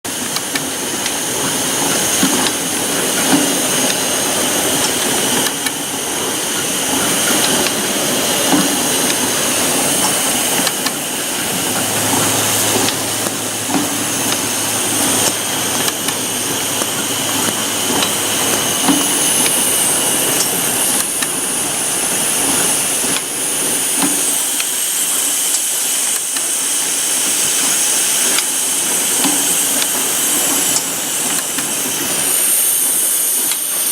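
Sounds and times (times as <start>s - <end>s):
machine hiss and high whine: 0.1s - 33.9s.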